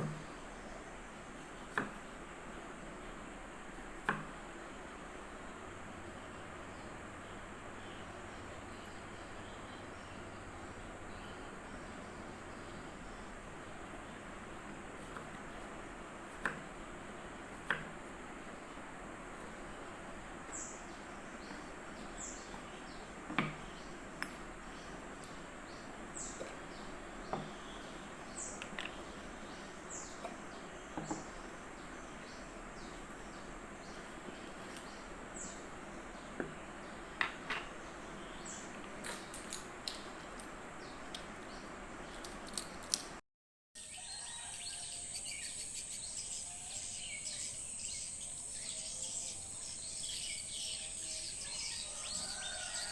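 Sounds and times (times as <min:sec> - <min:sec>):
steady background hiss: 0:00.0 - 0:43.2, 0:43.8 - 0:52.9.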